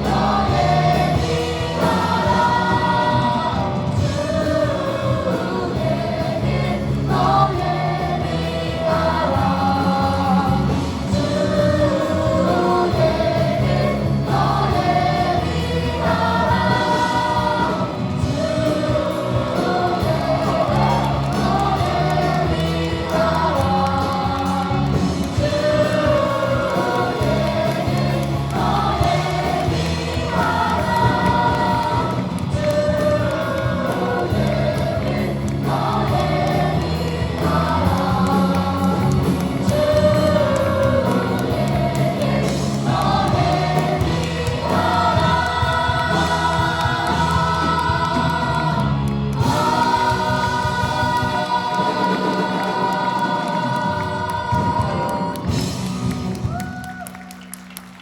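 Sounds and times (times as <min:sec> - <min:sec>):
choir singing: 0:00.0 - 0:56.2.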